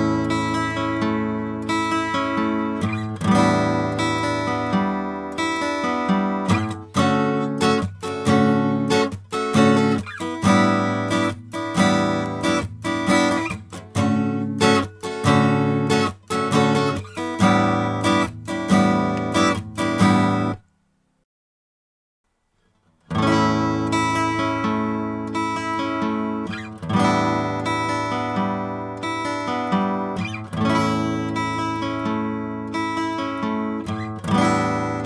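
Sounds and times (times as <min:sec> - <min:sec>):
strummed guitar chords: 0:00.0 - 0:20.7, 0:23.0 - 0:35.0.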